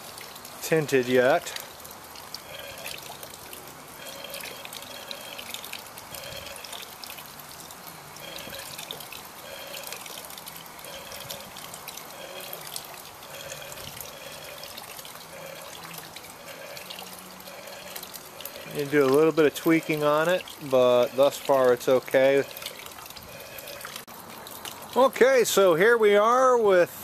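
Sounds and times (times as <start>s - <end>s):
water trickling and splashing: 0.0s - 26.7s.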